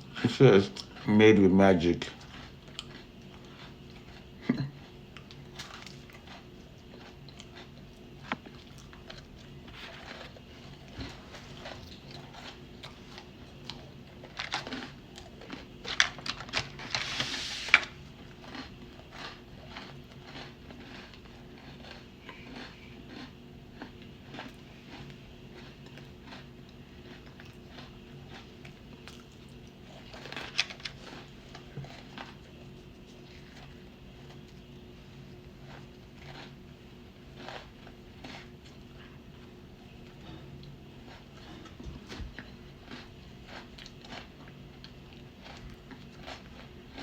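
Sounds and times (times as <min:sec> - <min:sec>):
crunchy chewing of cookies: 0:00.0 - 0:47.0.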